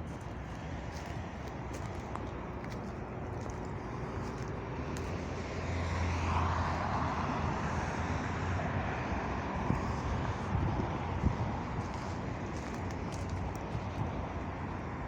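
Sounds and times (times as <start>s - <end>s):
traffic hum: 0.0s - 15.0s
vehicle passing: 0.0s - 15.0s.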